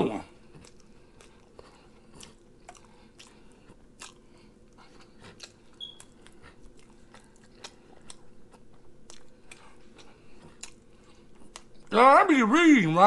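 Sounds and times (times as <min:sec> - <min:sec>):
wet chewing: 0:00.3 - 0:11.9.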